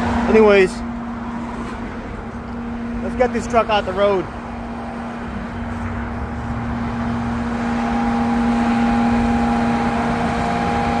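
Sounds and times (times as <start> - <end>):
high-pitched whine: 0.0 - 11.0
truck engine humming: 0.0 - 11.0.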